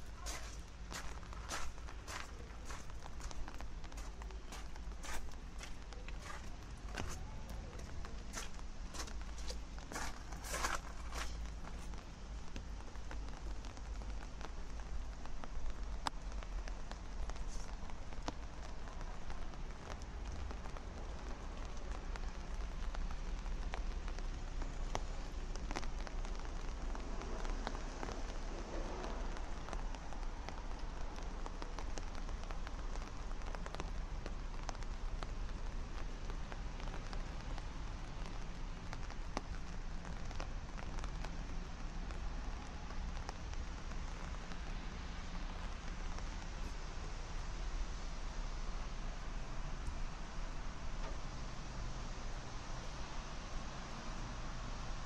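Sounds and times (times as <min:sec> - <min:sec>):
rain on hard surfaces: 0:00.0 - 0:55.0.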